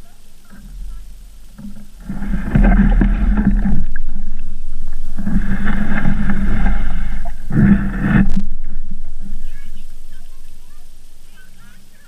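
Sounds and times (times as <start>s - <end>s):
boat hull scraping over rocks: 0.5s - 11.9s.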